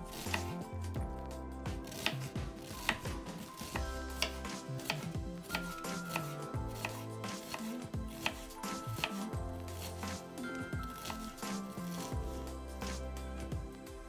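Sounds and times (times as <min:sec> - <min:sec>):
knife chopping on cutting board: 0:00.0 - 0:00.7, 0:01.7 - 0:13.0
music: 0:00.0 - 0:14.0.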